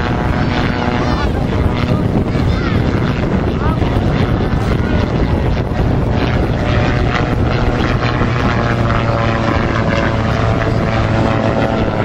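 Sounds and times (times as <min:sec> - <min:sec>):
gyroplane engine and propeller droning: 0:00.0 - 0:12.0.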